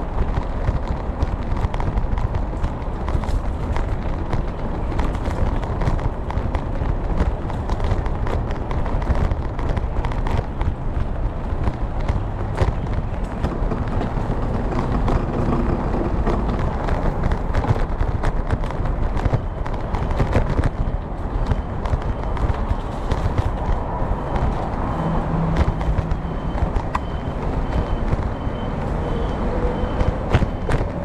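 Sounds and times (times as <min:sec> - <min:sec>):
bicycle rattles and knocks: 0:00.0 - 0:31.0
road rumble: 0:00.0 - 0:31.0
wind buffeting: 0:00.0 - 0:31.0.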